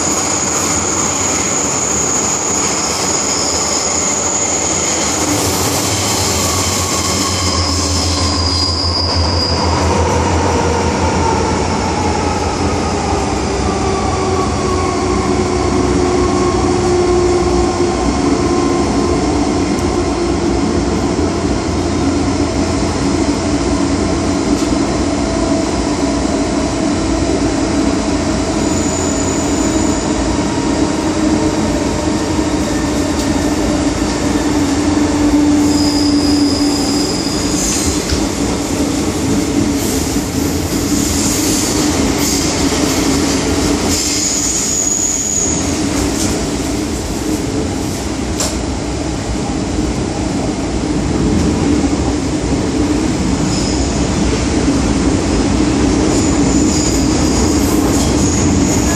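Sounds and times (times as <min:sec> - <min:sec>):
train wheels rumbling: 0:00.0 - 0:58.9.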